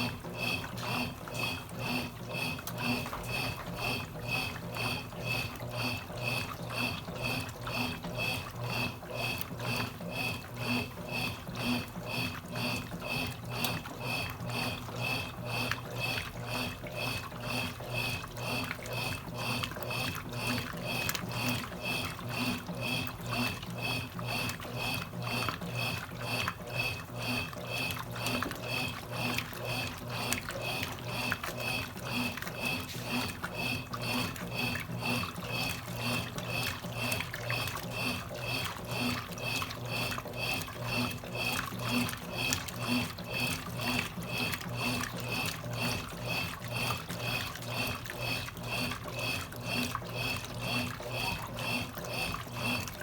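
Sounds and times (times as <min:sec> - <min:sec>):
washing machine water sloshing: 0:00.0 - 0:53.0.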